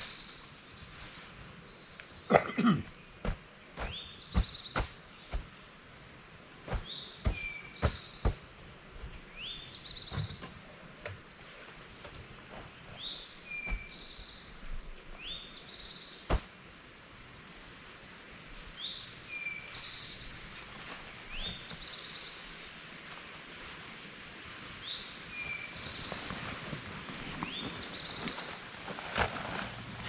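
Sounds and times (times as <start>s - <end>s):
outdoor background noise: 0.0s - 30.0s
songbird singing: 0.0s - 30.0s.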